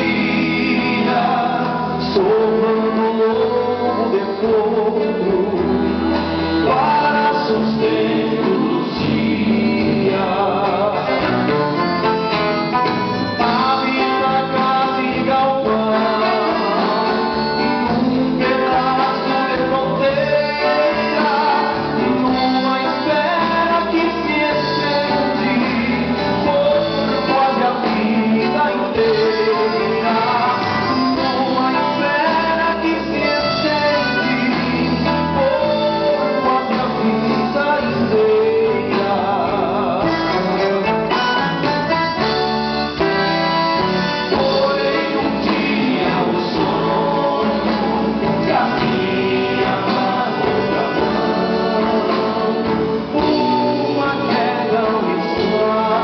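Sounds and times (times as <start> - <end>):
accordion: 0.0 - 56.0
acoustic guitars: 0.0 - 56.0
drums: 0.0 - 56.0
electric guitar: 0.0 - 56.0
man singing into a microphone: 0.0 - 56.0.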